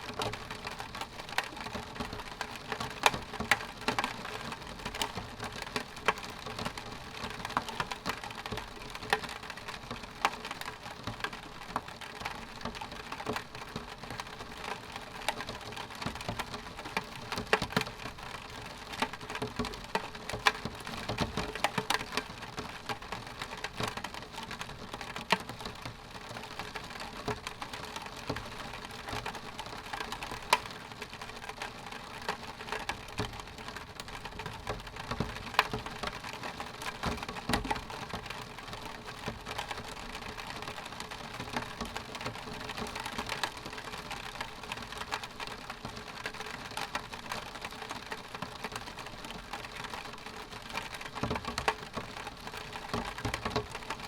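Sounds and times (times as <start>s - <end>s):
rain on window glass: 0.0s - 54.0s.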